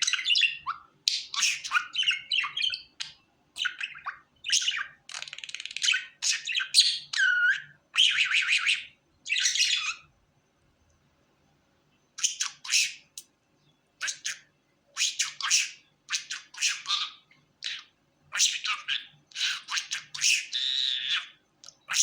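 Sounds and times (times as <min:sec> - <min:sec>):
budgerigar chirping and squawking: 0:00.0 - 0:10.1, 0:12.2 - 0:13.2, 0:14.0 - 0:22.0.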